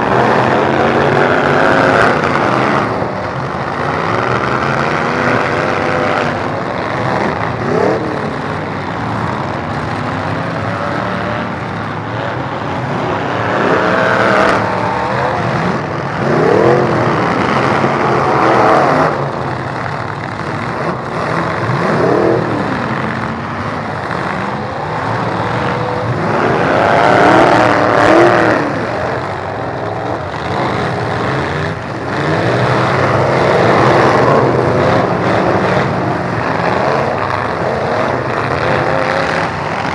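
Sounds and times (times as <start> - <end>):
din of engines running: 0.0 - 39.9
truck engines revving hard: 0.0 - 39.9.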